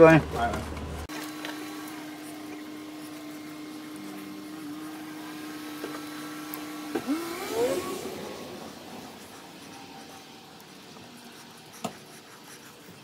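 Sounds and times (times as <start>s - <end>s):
motor humming and whining: 0.0s - 13.0s.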